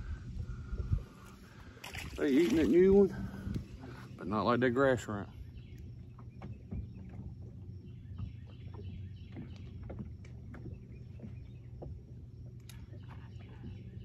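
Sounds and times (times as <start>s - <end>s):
steady low hum: 0.0s - 14.0s
waves lapping against boat hull: 0.4s - 14.0s.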